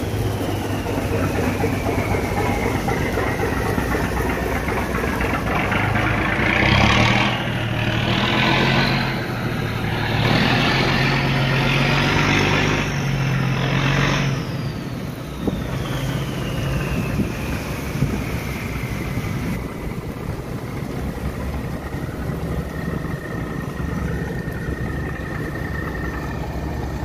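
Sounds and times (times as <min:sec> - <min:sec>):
boat engine revving: 0:00.0 - 0:27.0
rushing noise: 0:00.0 - 0:27.0.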